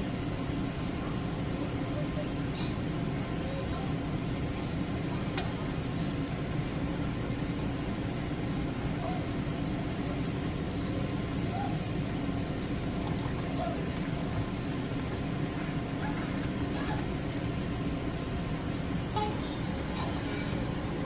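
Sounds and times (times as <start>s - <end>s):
low rumble of machinery: 0.0s - 21.0s.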